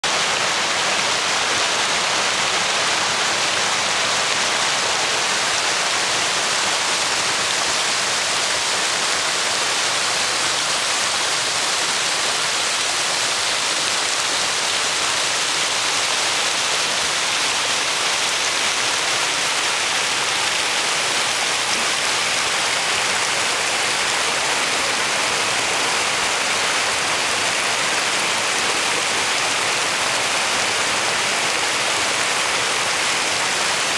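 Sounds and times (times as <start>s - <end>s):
creek water rushing: 0.0s - 33.9s.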